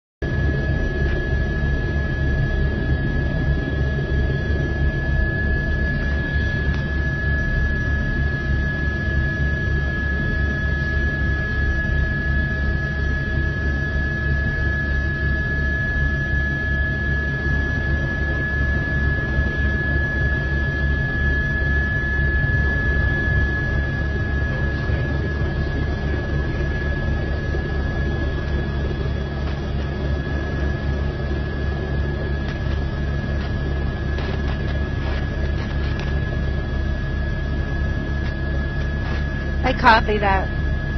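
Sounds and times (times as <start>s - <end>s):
helicopter rotor and turbine drone: 0.2s - 40.9s
thin high whine: 0.3s - 12.8s, 18.2s - 40.9s.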